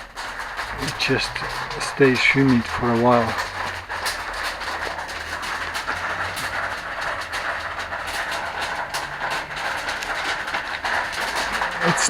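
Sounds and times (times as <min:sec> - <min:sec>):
water drips and spatters: 0:00.0 - 0:12.0.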